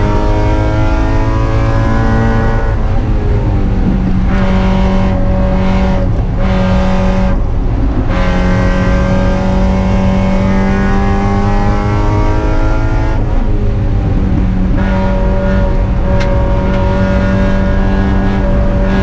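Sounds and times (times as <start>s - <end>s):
car engine pulling hard: 0.0s - 19.0s.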